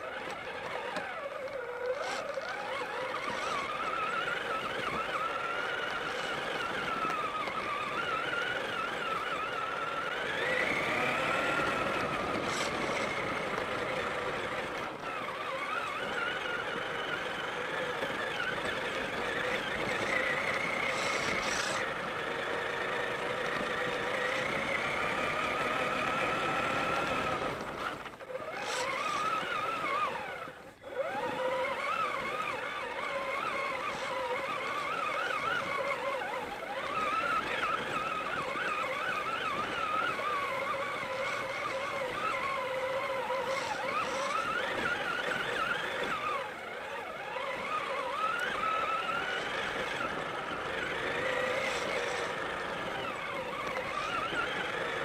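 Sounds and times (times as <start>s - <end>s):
rc truck electric motor whining: 0.0s - 55.0s.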